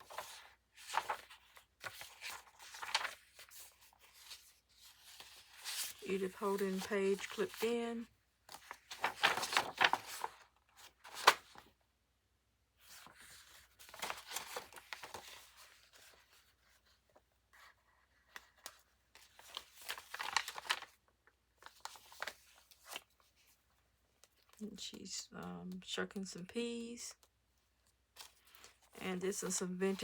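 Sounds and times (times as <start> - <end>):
paper pages rustling: 0.0 - 11.8, 12.8 - 25.0, 27.2 - 30.0.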